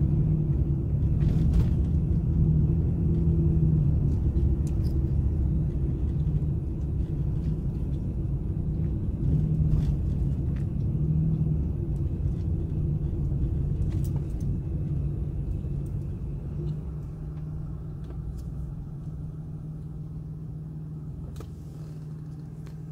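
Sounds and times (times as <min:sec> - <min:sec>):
vehicle engine and tyre rumble: 0:00.0 - 0:22.9.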